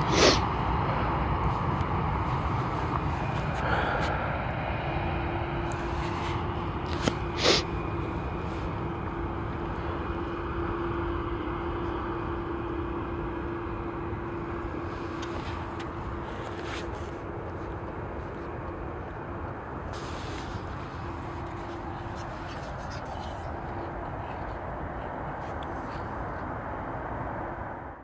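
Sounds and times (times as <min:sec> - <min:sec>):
jet airliner engine hum: 0:00.0 - 0:28.0.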